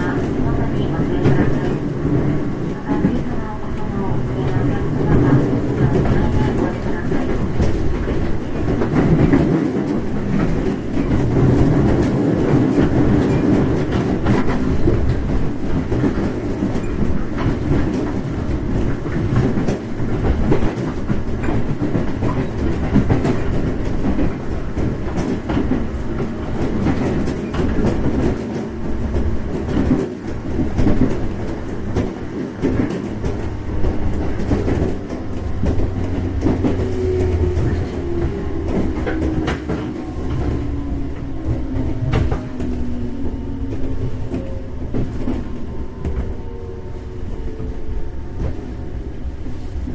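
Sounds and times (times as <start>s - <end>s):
wheels clicking over rail joints: 0.0s - 46.6s
train running gear rumble: 0.0s - 49.9s.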